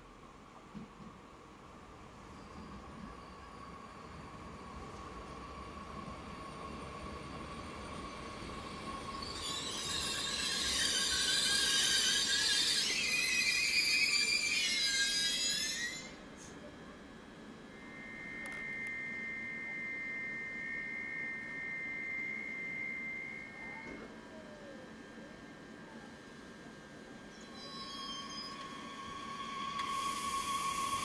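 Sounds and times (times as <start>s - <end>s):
train brakes squealing: 2.0s - 16.9s, 17.6s - 24.8s, 27.2s - 31.0s
steady high tone: 2.4s - 31.0s.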